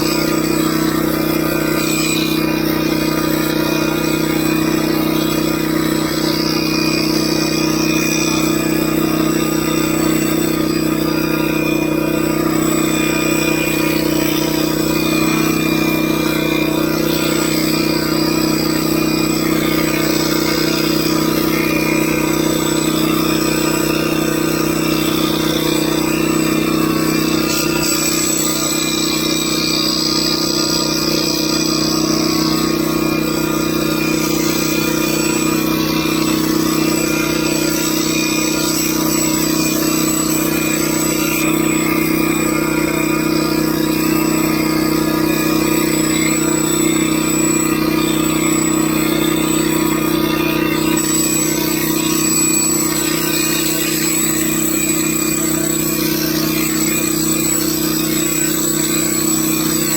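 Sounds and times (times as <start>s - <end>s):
steady mechanical drone: 0.0s - 59.9s.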